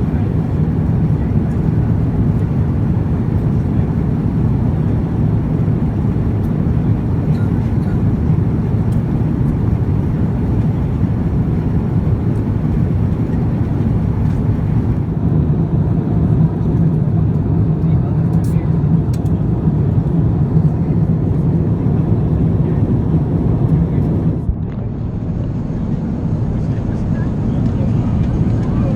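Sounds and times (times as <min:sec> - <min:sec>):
airliner cabin rumble: 0:00.0 - 0:28.9.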